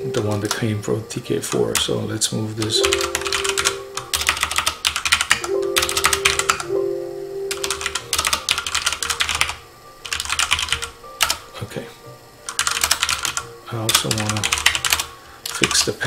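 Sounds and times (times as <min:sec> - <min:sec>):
keyboard typing: 0:00.0 - 0:00.8, 0:01.4 - 0:02.0, 0:02.6 - 0:06.8, 0:07.5 - 0:11.4, 0:12.4 - 0:16.0.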